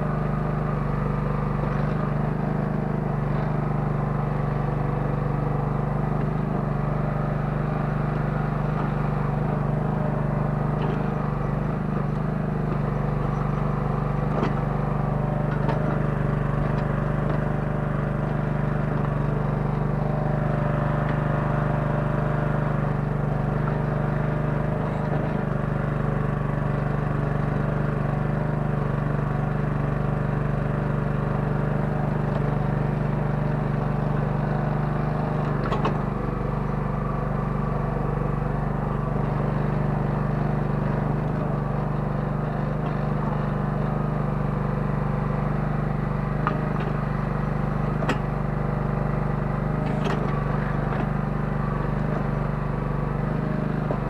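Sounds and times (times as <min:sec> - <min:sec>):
mini excavator engine running: 0:00.0 - 0:54.0.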